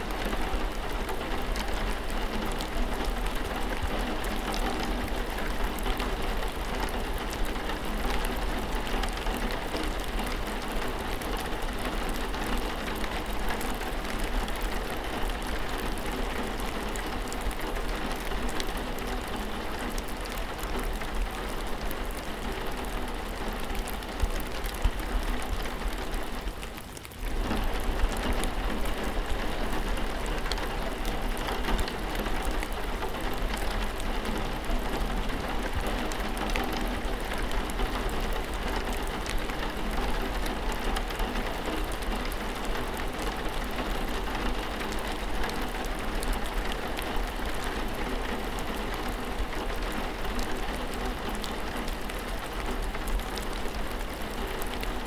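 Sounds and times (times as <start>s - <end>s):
rain patter: 0.0s - 55.0s.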